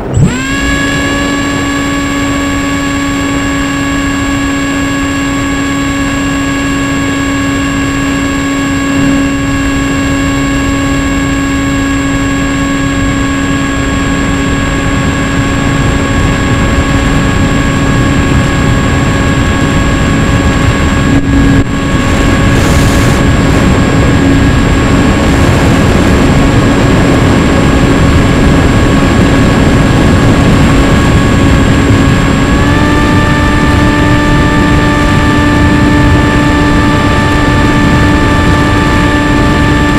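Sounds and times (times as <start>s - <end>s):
heavy wind rush: 0.0s - 39.9s
model airplane motor humming: 0.0s - 39.9s.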